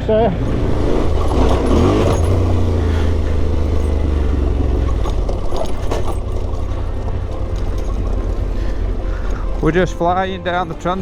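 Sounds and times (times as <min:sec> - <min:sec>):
motorcycle engine at low revs: 0:00.0 - 0:11.0
motorcycle knocking over rocks: 0:00.4 - 0:11.0.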